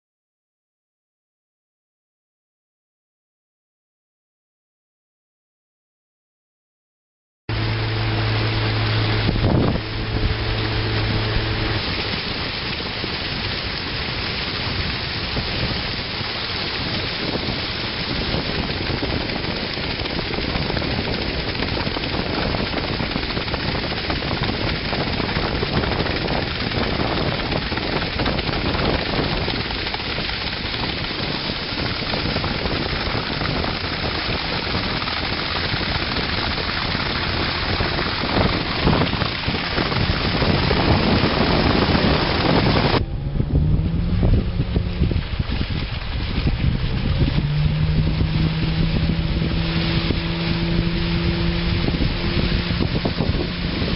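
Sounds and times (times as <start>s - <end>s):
bow wave and spray rushing along hull: 7.5s - 53.9s.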